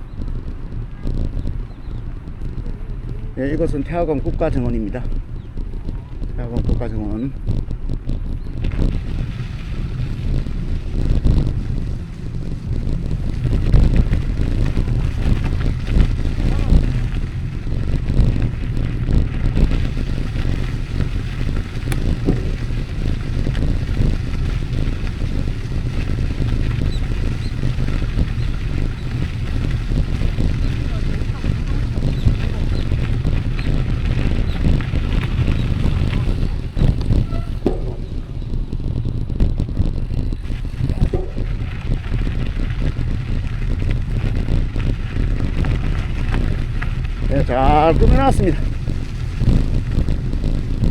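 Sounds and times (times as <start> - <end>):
vehicle and road noise: 0.0 - 50.9
wind buffeting microphone: 0.0 - 50.9.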